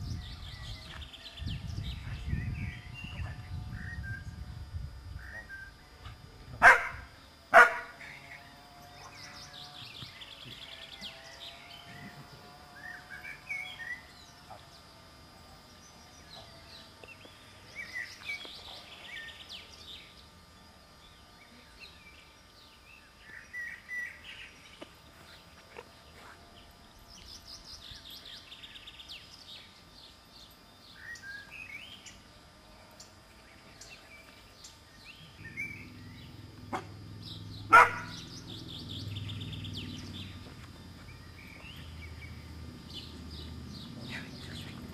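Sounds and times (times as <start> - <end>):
songbirds chirping and singing: 0.0 - 4.5, 5.1 - 44.9.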